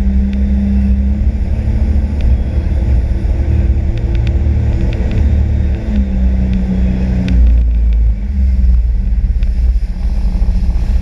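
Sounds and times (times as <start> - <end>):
jet ski engine drone: 0.0 - 11.0.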